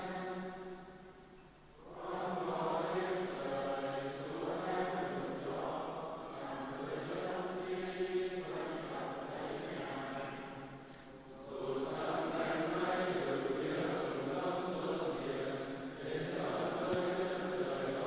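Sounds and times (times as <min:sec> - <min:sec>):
group chanting a psalm: 0:00.0 - 0:01.2, 0:01.8 - 0:18.0.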